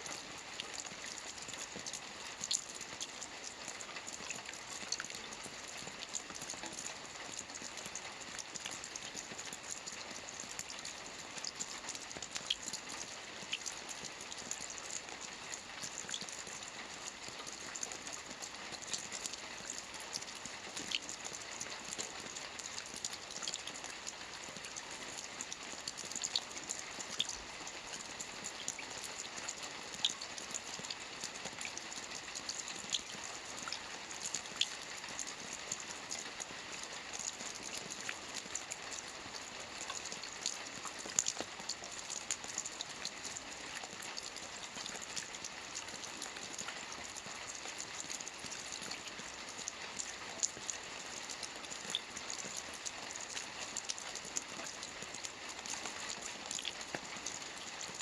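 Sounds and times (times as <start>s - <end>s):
rain falling on a lake: 0.0s - 58.0s.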